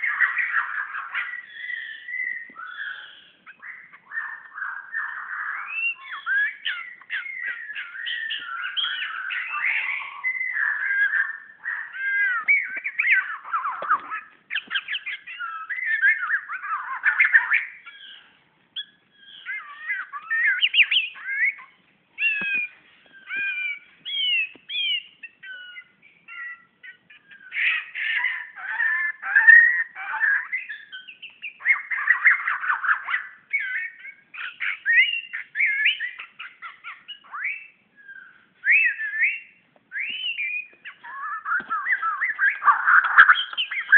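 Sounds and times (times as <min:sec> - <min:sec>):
bird singing whistles and warbles: 0:00.0 - 0:43.9.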